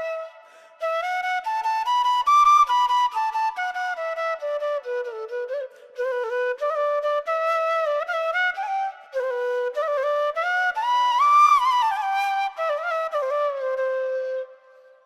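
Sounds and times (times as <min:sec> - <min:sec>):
flute melody: 0:00.0 - 0:15.0.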